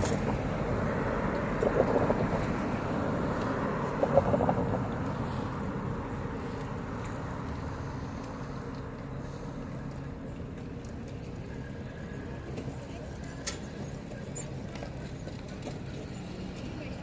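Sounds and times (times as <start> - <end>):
car passing: 0.0 - 17.0
city traffic hum: 0.0 - 17.0.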